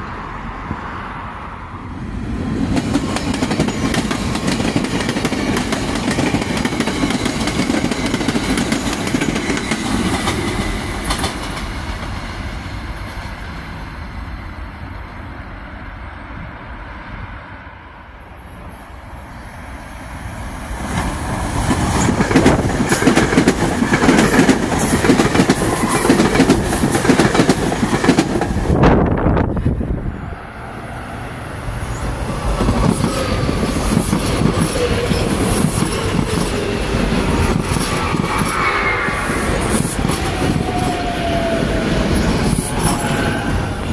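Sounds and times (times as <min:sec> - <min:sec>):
commuter trains passing on rails: 0:00.0 - 0:43.9.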